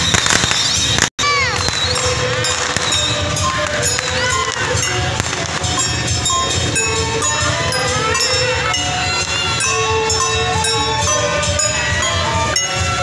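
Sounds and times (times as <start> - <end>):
light percussion beat: 0.0 - 13.0.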